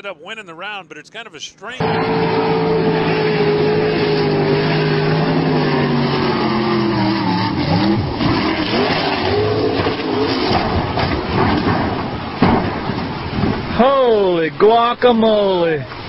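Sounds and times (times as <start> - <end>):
speedboat engine: 1.4 - 14.5.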